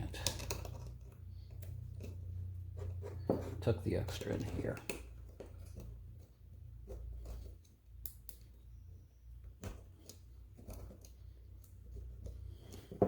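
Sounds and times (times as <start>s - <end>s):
faint clicks and scraping: 0.0s - 13.0s.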